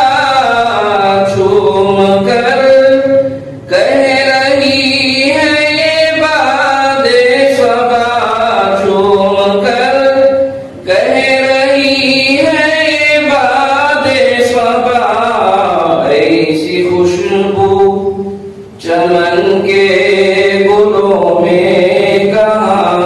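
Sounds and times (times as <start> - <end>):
person singing unaccompanied: 0.0 - 23.0.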